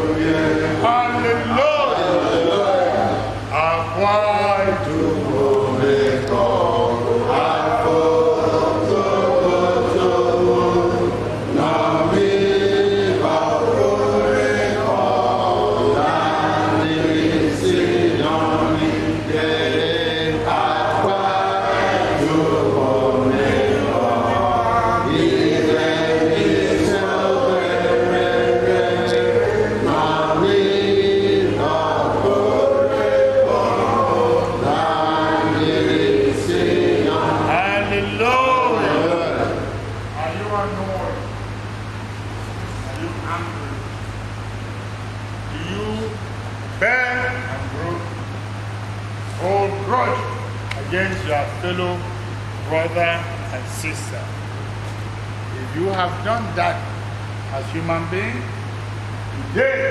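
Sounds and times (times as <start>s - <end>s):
congregation chanting: 0.0s - 54.5s, 58.9s - 59.9s
steady low hum: 0.0s - 59.9s.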